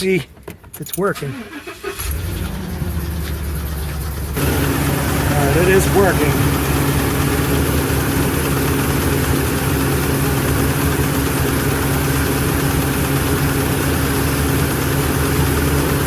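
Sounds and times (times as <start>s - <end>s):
engine idling with misfire: 1.1s - 16.0s.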